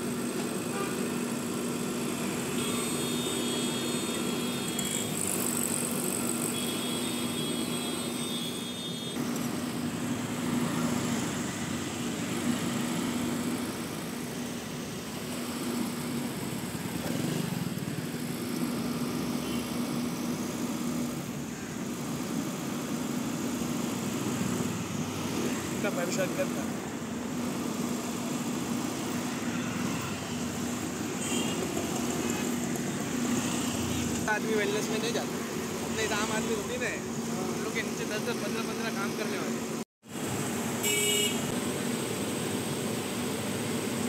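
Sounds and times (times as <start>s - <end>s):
street traffic: 0.0s - 44.0s.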